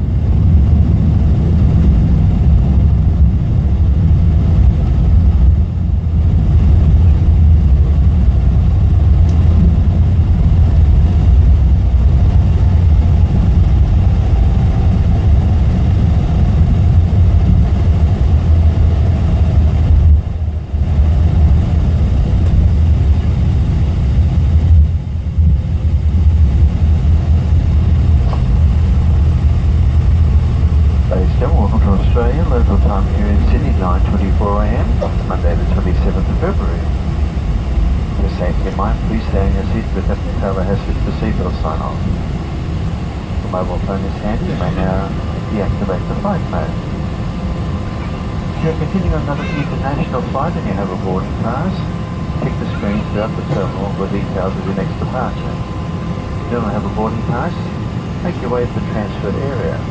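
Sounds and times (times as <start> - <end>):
engine and wheel rumble: 0.0 - 59.9
jet engine whine: 0.0 - 59.9.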